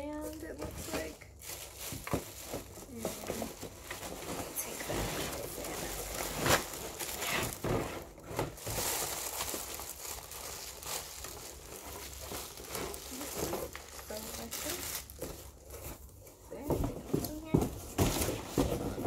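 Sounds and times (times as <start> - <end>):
plastic wrapping crinkling: 0.0 - 19.0
cardboard box rustling: 0.5 - 19.0.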